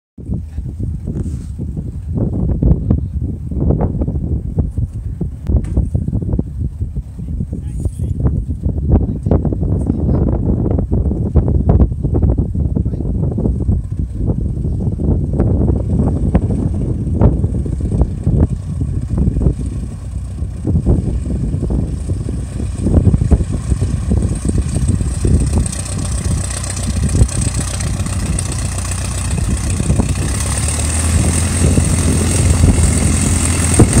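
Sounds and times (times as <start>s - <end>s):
propeller plane engine running: 0.2s - 34.0s.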